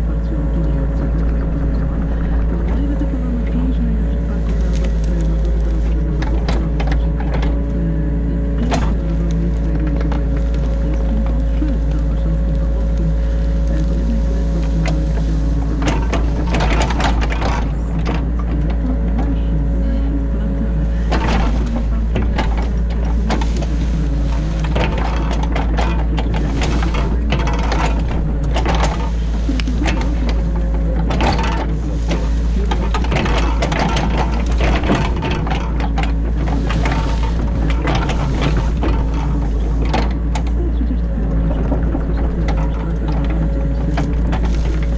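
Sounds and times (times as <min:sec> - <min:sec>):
excavator clattering and scraping: 0:00.0 - 0:44.9
excavator diesel engine running: 0:00.0 - 0:44.9.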